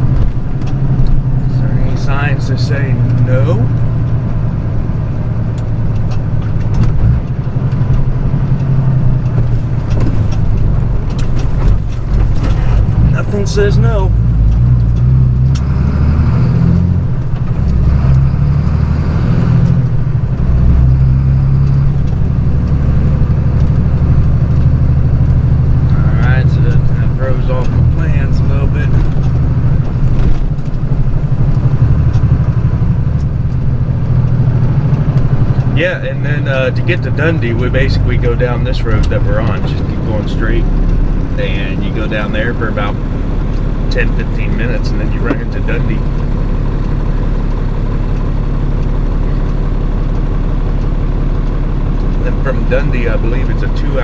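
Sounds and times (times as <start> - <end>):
road noise inside cab: 0.0 - 54.0
truck engine drone: 0.0 - 54.0.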